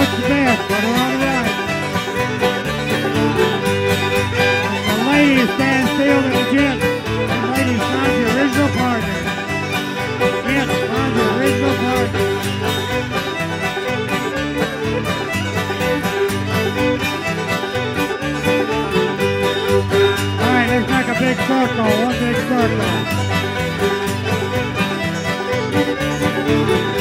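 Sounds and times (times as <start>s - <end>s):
string band playing dance tune: 0.0s - 27.0s.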